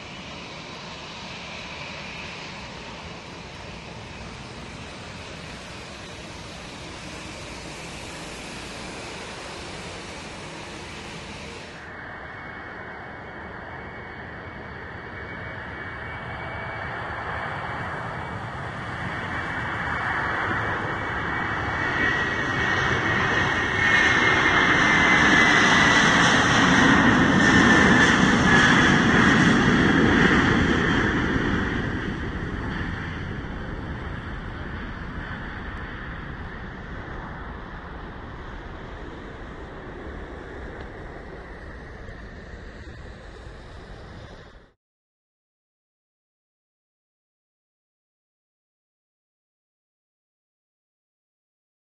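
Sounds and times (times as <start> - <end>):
high jet fan whine: 0.0 - 44.8
jet taking off: 0.0 - 44.8.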